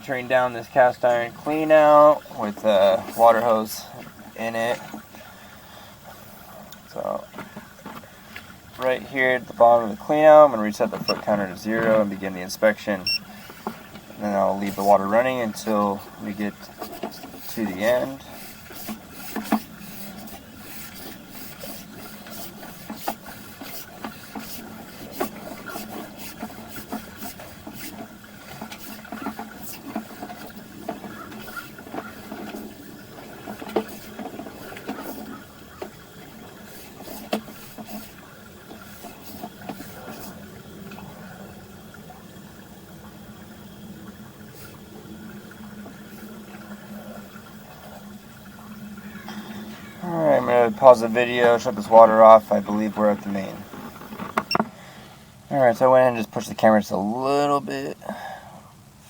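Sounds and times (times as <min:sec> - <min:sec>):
water rushing in a pipe: 0:00.0 - 0:59.0.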